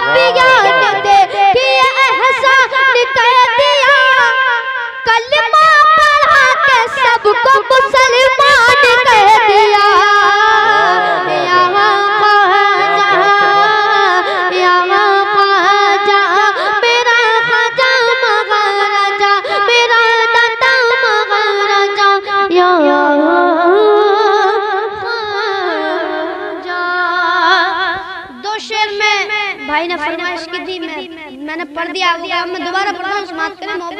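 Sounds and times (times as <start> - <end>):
boy singing into a microphone: 0.0 - 33.9.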